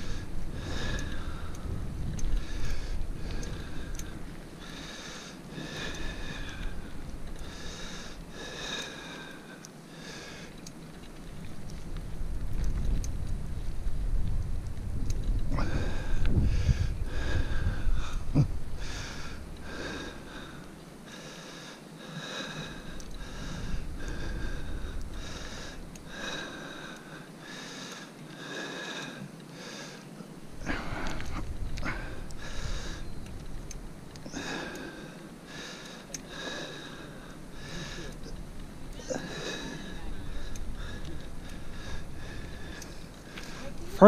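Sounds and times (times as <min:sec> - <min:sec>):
person breathing hard: 0:00.0 - 0:10.6, 0:15.5 - 0:33.2, 0:34.2 - 0:44.0
wind rumble: 0:00.0 - 0:27.5, 0:30.3 - 0:44.0.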